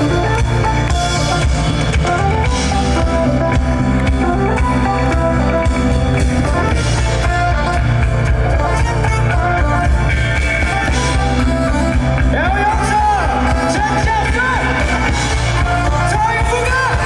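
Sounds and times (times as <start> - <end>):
guitar: 0.0 - 17.0
live band playing pop: 0.0 - 17.0
steady drum beat: 0.0 - 17.0.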